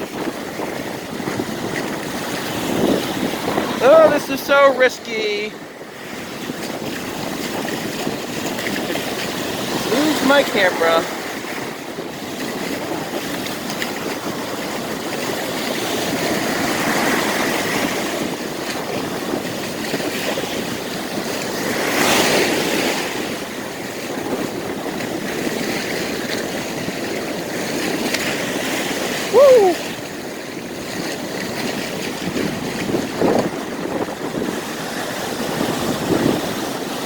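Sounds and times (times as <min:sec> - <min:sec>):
wave crashing: 0:00.0 - 0:30.2, 0:31.2 - 0:37.0
ocean waves breaking: 0:00.0 - 0:37.0.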